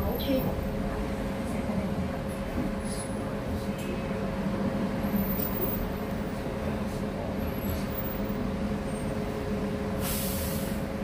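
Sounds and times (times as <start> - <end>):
bus engine hum: 0.0 - 11.0
road rumble: 0.0 - 11.0.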